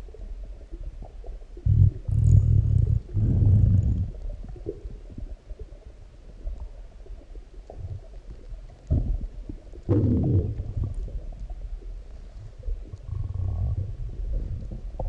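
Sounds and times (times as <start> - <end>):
stomach growls and gurgles: 0.0 - 15.0.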